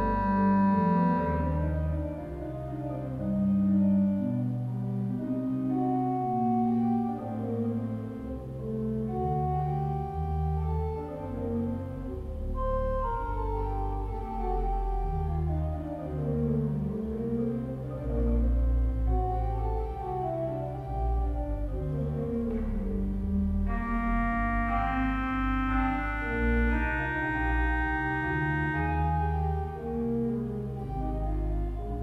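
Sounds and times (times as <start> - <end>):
pipe organ playing chords: 0.0 - 32.0.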